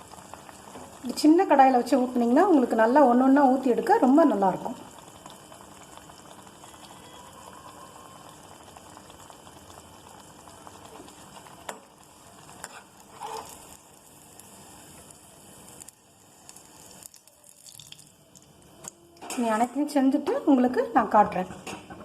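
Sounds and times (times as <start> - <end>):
batter sizzling in hot oil: 0.0 - 21.2.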